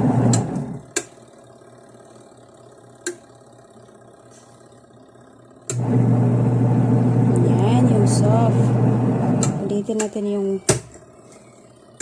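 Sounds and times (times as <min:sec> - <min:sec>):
faint hum: 0:00.0 - 0:12.0
washing machine motor humming: 0:00.0 - 0:12.0.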